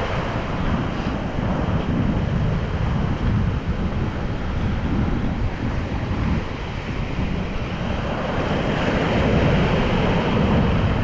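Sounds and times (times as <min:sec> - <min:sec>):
ocean surf breaking: 0:00.0 - 0:04.8, 0:05.4 - 0:11.0
wind buffeting microphone: 0:00.0 - 0:11.0.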